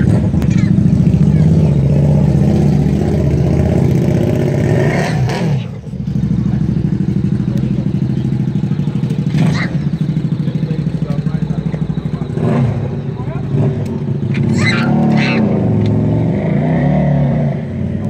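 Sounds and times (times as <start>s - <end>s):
car engine idling: 0.0s - 16.3s.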